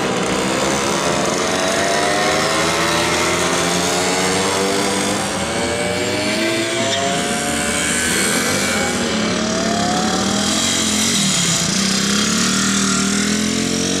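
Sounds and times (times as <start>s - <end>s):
two-stroke mopeds riding past: 0.0s - 14.0s.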